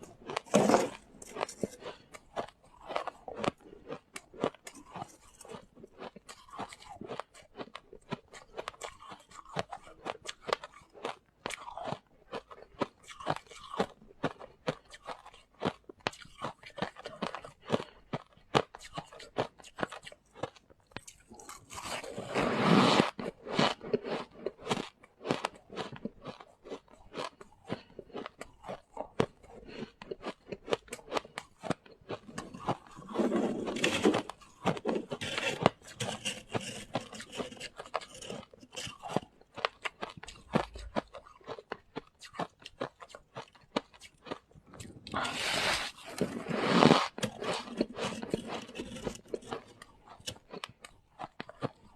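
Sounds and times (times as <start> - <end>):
crunching and chewing frost: 0.0 - 51.9.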